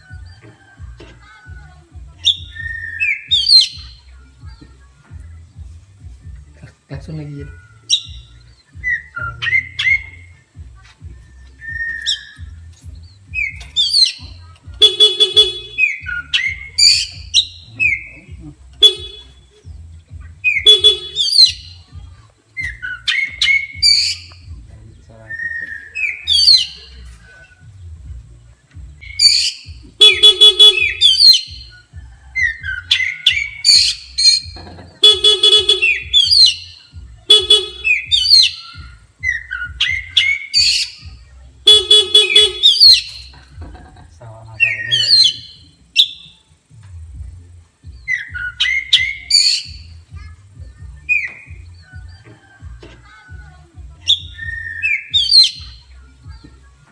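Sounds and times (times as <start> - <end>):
harsh buzzy bird notes: 0.0 - 56.9
bird singing whistles and chirps: 2.2 - 4.5, 5.4 - 43.6, 44.5 - 46.9, 47.8 - 56.9.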